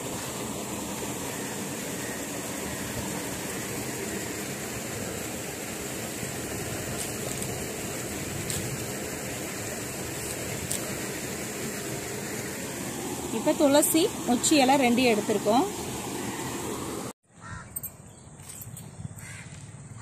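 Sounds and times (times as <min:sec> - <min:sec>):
water rushing along a channel: 0:00.0 - 0:17.2.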